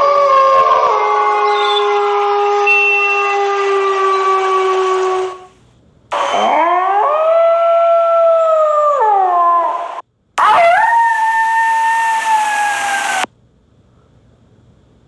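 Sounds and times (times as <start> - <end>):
wolf howling: 0.0 - 5.5, 6.3 - 13.3.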